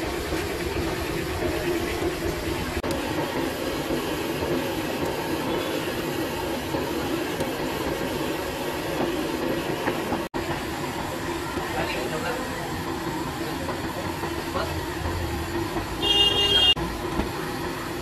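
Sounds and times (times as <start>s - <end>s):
deep-frying sizzle in oil: 0.0s - 18.0s
low rumble of burner: 0.0s - 18.0s.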